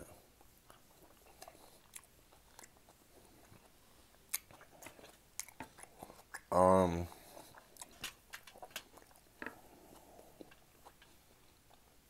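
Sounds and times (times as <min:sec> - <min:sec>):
person chewing: 0:00.2 - 0:12.0.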